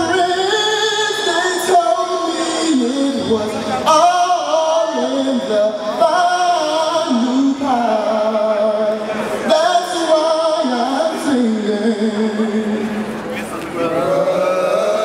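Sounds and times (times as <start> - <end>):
man singing a cappella: 0.0 - 13.1, 13.8 - 15.0.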